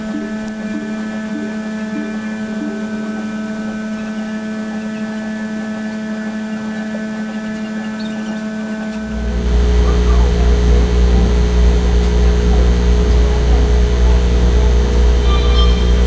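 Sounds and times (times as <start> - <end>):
faint repeating pattern of notes: 0.0 - 16.0
higher held tones: 0.0 - 16.0
steady low hum: 0.0 - 16.0.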